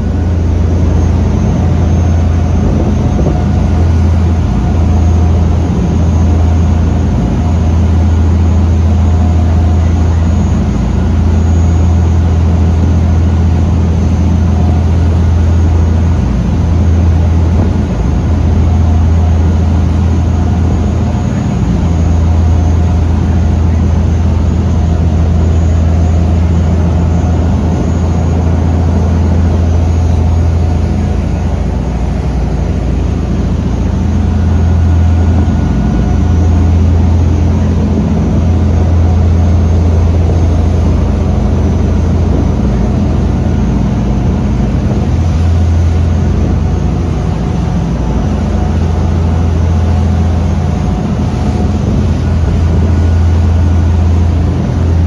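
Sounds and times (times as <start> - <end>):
boat engines droning: 0.0 - 55.0
water churning in wake: 0.0 - 55.0.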